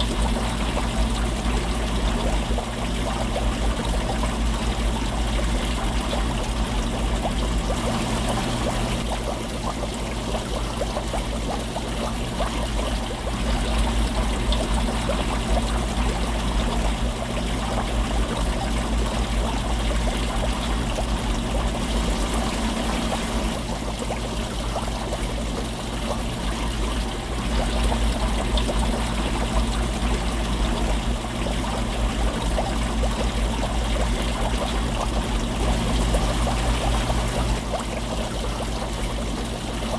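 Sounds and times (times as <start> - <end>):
bubbling crackle: 0.0 - 39.9
low steady hum: 0.0 - 39.9
underwater water rushing: 0.0 - 39.9.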